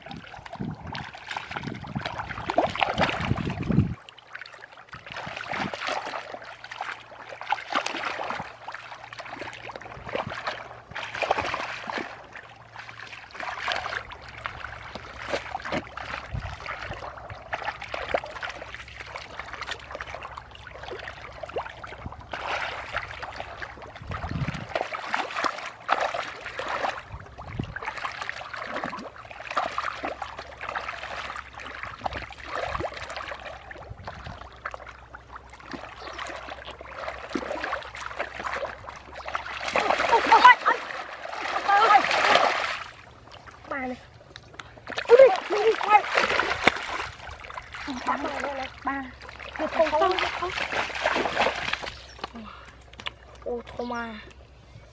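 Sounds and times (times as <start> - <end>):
hands splashing in muddy water: 0.0 - 43.5, 44.3 - 53.2.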